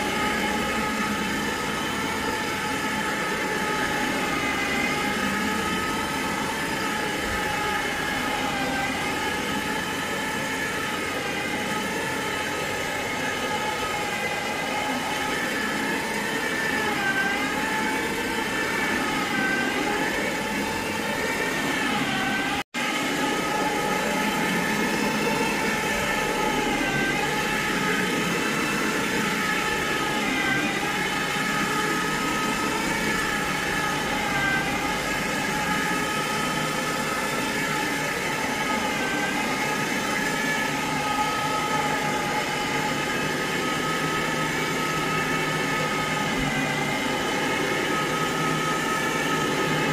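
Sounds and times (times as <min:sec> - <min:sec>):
high-pitched motor whine: 0:00.0 - 0:49.9.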